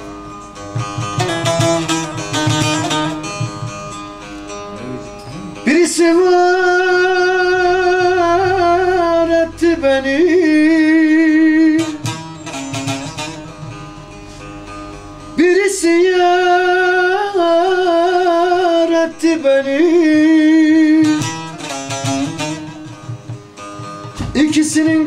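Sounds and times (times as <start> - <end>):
plucked long-necked lute: 0.0 - 25.0.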